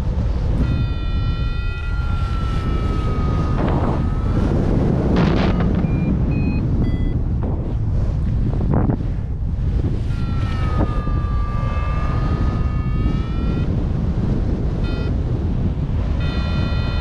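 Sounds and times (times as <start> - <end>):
wind rushing over microphone: 0.0 - 17.0
electronic variometer tones: 0.2 - 8.0, 9.6 - 17.0.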